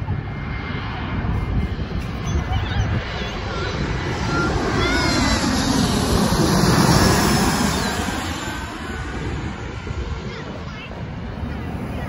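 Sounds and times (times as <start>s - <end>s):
jet airliner passing overhead: 0.0s - 12.0s.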